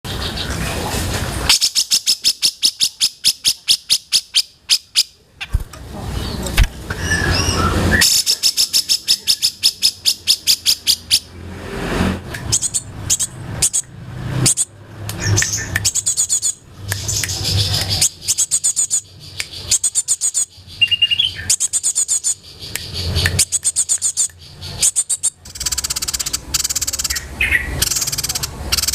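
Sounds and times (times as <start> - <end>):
songbirds chirping: 1.5 - 28.9.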